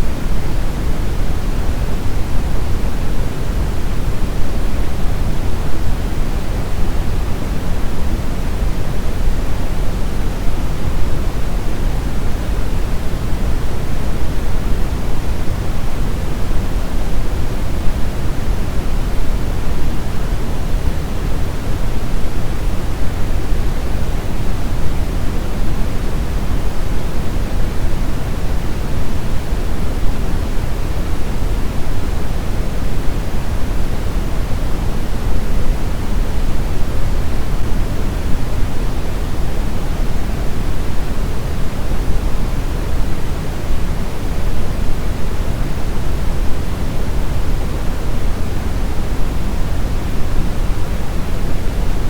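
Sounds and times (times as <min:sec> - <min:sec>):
steady brown noise hiss: 0:00.0 - 0:52.0.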